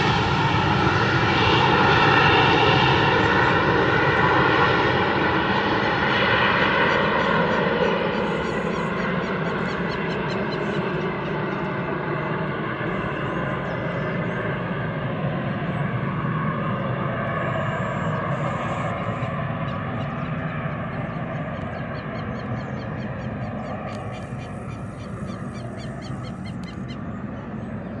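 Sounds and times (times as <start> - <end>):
jet engines climbing: 0.0 - 28.0.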